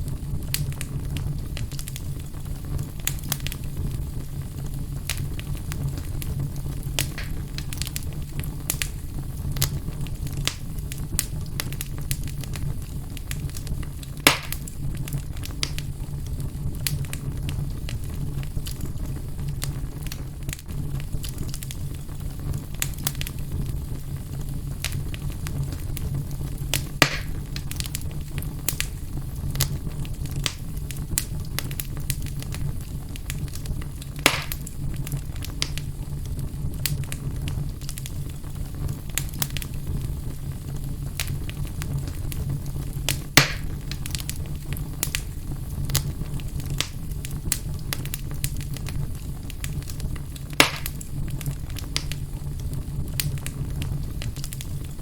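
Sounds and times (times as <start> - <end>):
low rumble of fire: 0.0 - 55.0
sharp fire pops: 0.0 - 55.0
wood fire crackling: 0.0 - 55.0.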